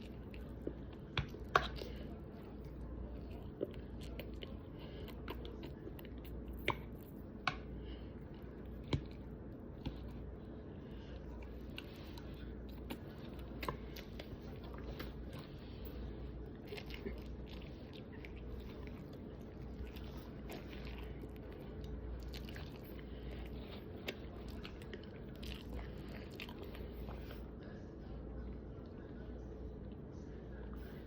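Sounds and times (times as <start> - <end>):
person chewing food: 0.0 - 27.6
steady low hum: 0.0 - 31.0.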